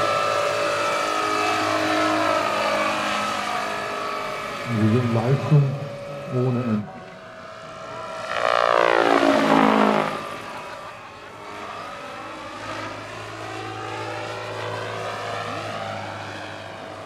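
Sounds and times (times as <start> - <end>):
model helicopter rotor whine: 0.0 - 17.0.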